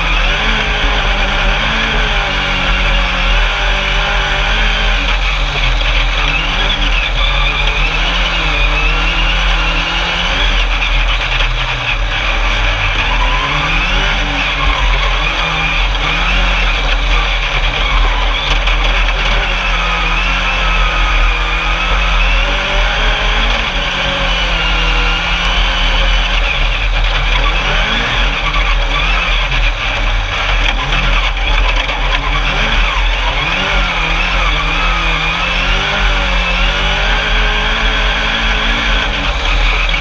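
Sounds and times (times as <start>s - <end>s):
race buggy engine revving: 0.0s - 40.0s.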